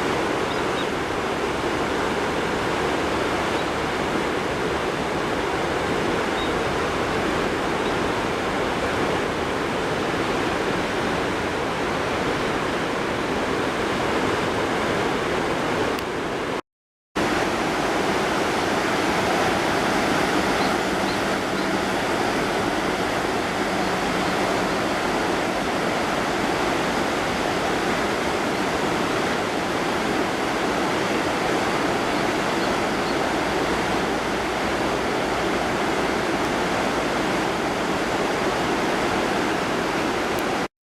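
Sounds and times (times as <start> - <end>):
river water rushing: 0.0 - 16.6, 17.2 - 40.7.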